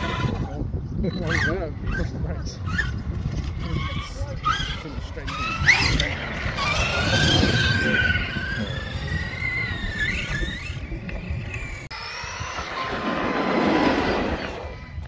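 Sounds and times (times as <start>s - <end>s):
electric motor whining: 0.0s - 15.0s
tyres rumbling: 2.6s - 15.0s.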